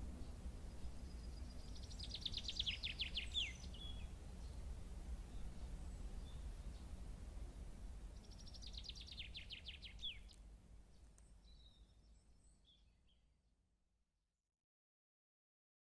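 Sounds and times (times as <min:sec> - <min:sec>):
songbird singing: 0:00.0 - 0:13.4.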